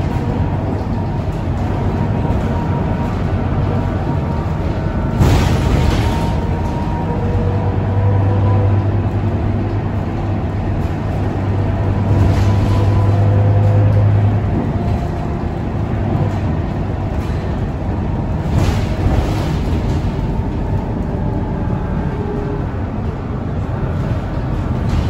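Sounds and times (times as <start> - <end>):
bus engine drone: 0.0 - 25.0
road noise: 0.0 - 25.0.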